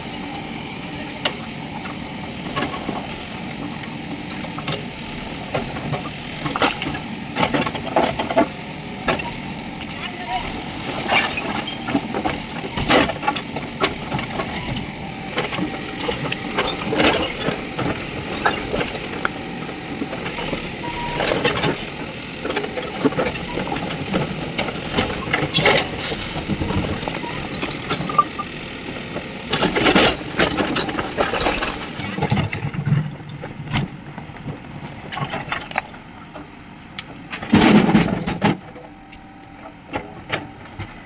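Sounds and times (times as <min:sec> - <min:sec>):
diesel engine running under load: 0:00.0 - 0:41.0.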